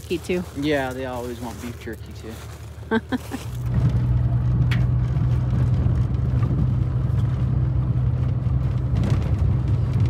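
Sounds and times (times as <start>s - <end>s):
engine and road hum: 0.0s - 10.0s.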